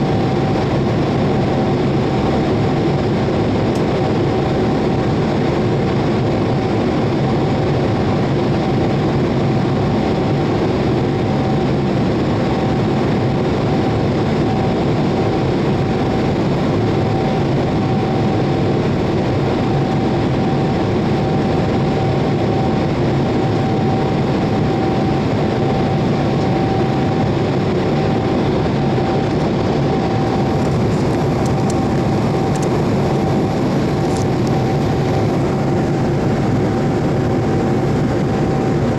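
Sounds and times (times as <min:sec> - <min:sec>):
jet airliner engine and air rush: 0:00.0 - 0:38.9.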